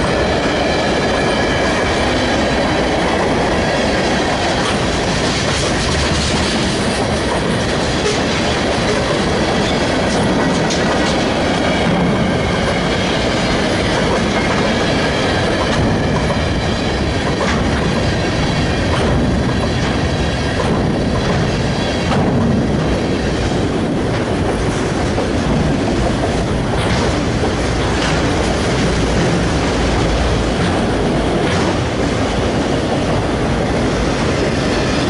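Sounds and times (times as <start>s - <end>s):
railroad car wheel noise: 0.0s - 35.0s.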